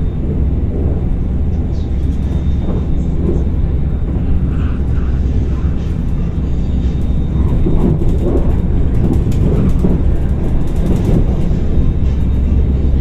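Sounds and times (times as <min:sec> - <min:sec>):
train rumble inside carriage: 0:00.0 - 0:13.0.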